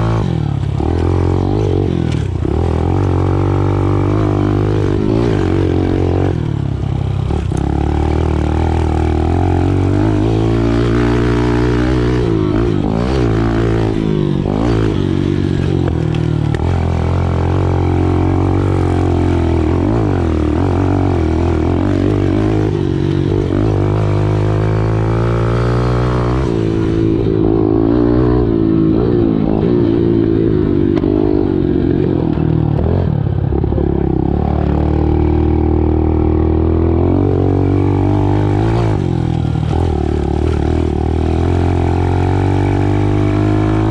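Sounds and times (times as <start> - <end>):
pit bike engine revving: 0.0 - 43.9.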